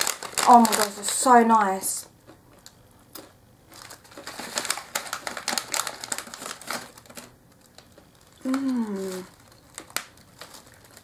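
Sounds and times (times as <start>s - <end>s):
plastic pouch crinkling: 0.0s - 11.0s.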